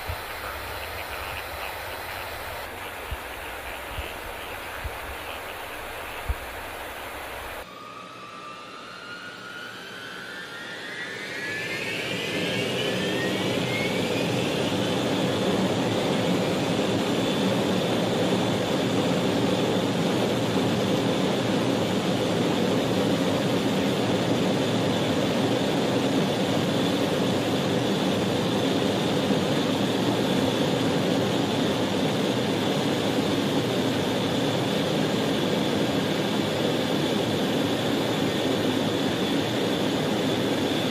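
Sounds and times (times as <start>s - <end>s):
jet engines roaring with high whine: 0.0s - 40.9s.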